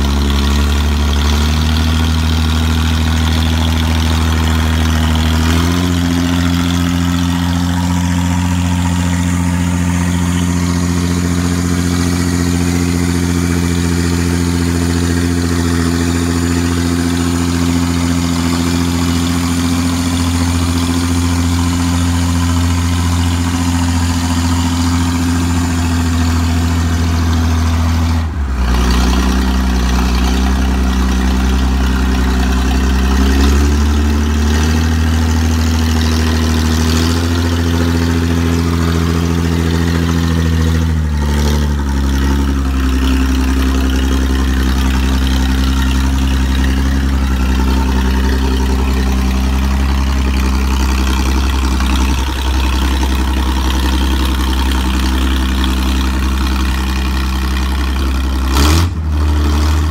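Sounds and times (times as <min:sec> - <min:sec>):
backhoe loader engine running: 0:00.0 - 0:59.9.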